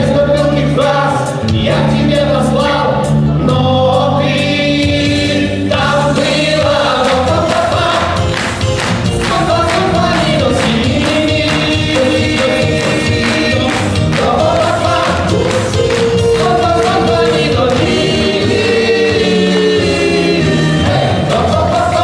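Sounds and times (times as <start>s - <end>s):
voices singing in harmony: 0.0s - 22.0s
electric band with steady beat: 3.0s - 22.0s.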